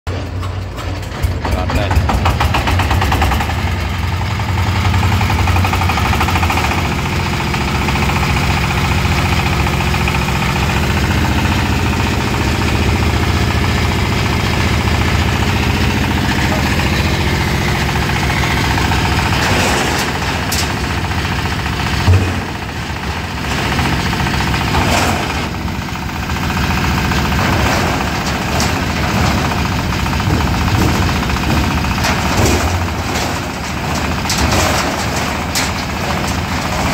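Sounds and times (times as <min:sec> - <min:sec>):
diesel engine running: 0:00.1 - 0:36.9
rattles and clatter: 0:00.1 - 0:36.9.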